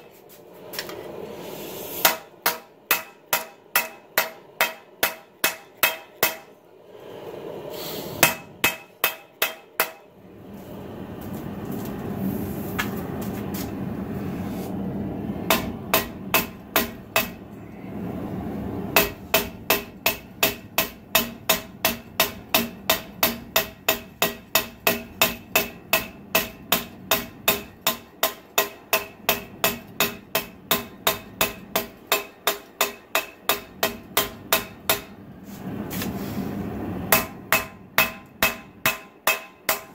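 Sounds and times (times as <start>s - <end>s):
steady rushing noise: 0.0s - 39.8s.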